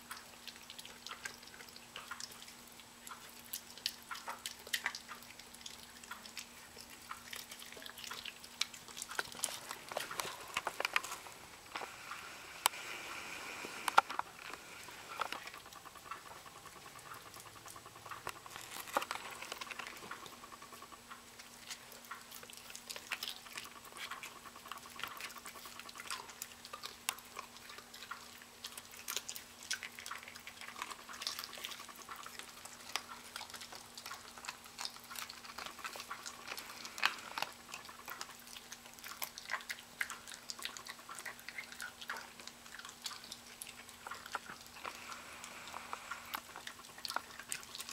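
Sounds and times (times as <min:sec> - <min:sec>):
dog chewing raw chicken: 0:00.0 - 0:47.9.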